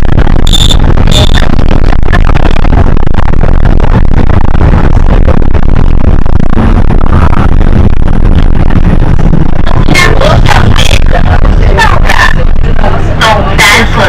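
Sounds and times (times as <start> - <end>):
bus diesel engine: 0.0 - 14.0
road noise: 0.0 - 14.0.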